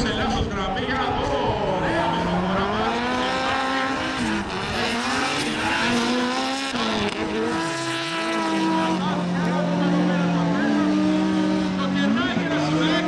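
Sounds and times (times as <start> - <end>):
car engines revving high: 0.0 - 13.0.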